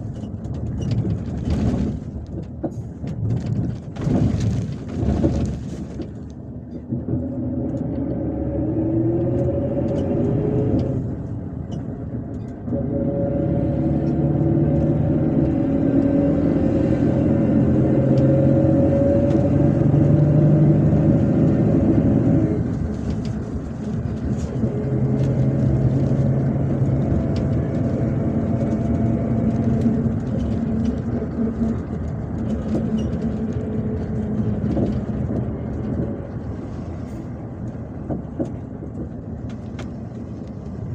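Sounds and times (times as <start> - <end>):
coach engine from inside cabin: 0.0 - 40.9.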